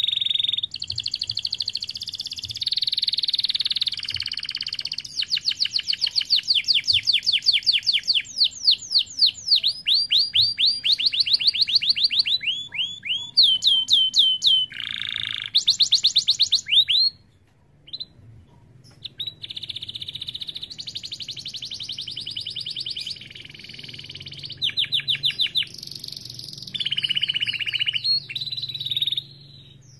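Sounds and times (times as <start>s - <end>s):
canary singing trills: 0.0s - 29.9s.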